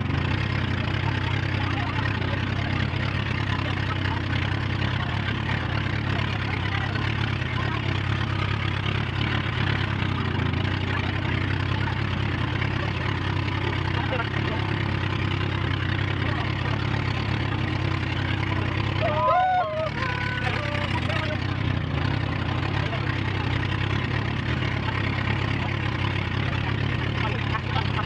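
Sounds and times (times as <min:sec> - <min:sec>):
boat engine drone: 0:00.0 - 0:28.0.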